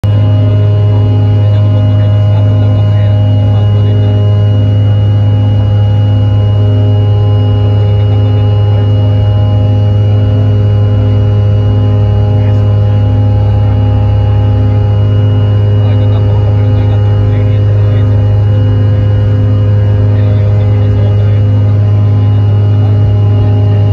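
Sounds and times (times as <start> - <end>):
faint pulsing tone: 0.0 - 23.9
jet engines low hum and whine: 0.0 - 23.9.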